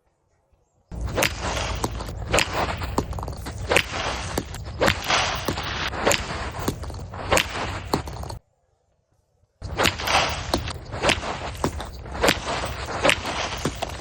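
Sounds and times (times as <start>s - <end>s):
footsteps crunching on icy snow: 0.9s - 8.4s, 9.6s - 14.0s.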